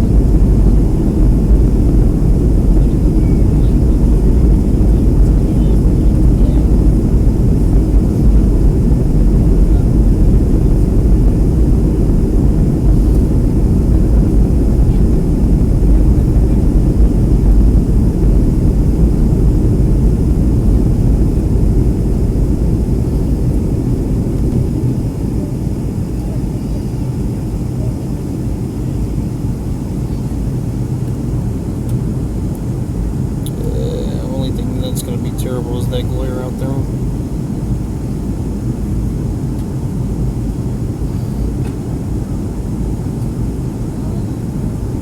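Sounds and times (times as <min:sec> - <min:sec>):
jet engine cabin rumble: 0:00.0 - 0:45.0.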